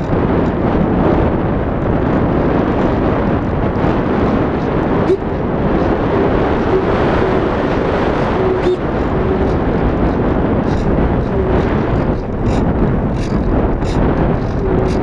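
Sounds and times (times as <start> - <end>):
wind rushing: 0.0 - 15.0.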